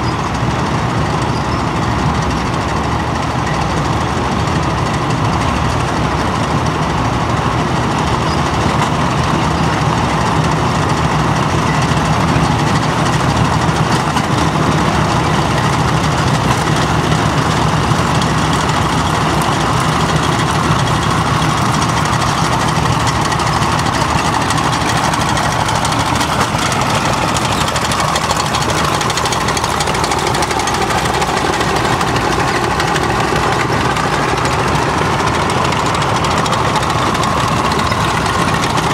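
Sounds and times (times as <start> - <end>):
tracked armoured vehicle engines rumbling: 0.0 - 38.9.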